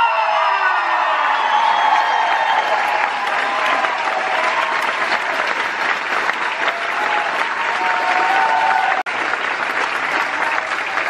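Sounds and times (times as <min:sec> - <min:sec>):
audience applauding: 0:00.0 - 0:11.0
people cheering: 0:00.0 - 0:11.0.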